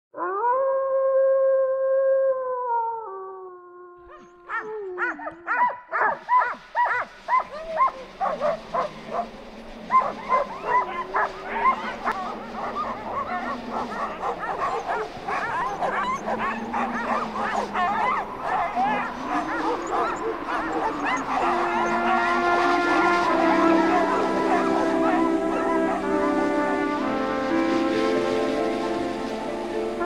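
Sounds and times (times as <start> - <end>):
dog howling: 0.2 - 28.2
dogs barking and yipping: 4.1 - 28.7.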